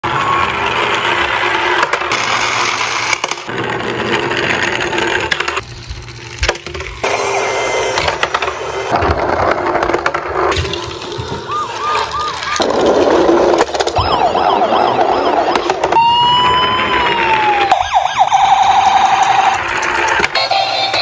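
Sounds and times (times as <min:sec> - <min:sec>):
toy wheels rolling on board: 0:00.1 - 0:21.0.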